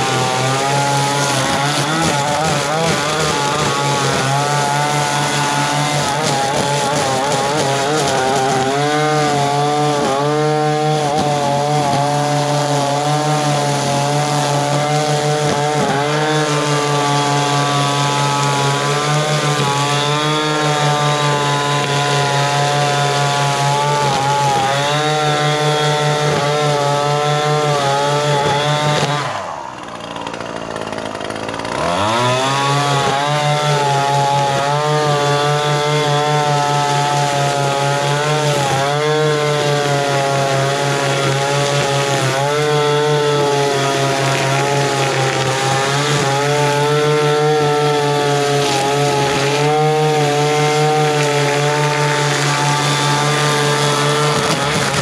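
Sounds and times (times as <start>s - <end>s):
string trimmer cutting grass: 0.0s - 55.0s.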